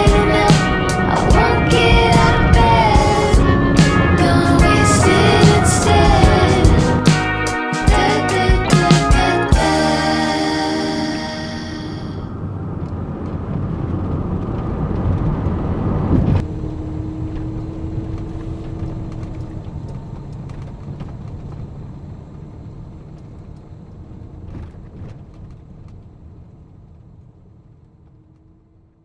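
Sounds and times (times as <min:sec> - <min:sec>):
low vehicle rumble: 0:00.0 - 0:28.8.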